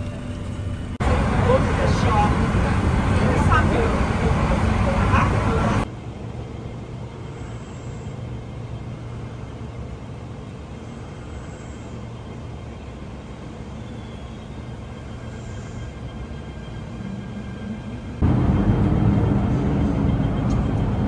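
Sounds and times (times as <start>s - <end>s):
low rumble of passing train: 0.0s - 21.0s
train car running noise: 0.0s - 21.0s.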